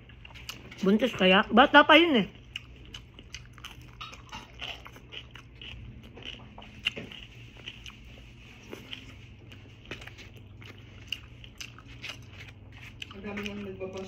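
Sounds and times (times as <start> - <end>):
person chewing food: 0.0 - 0.8, 2.3 - 14.0.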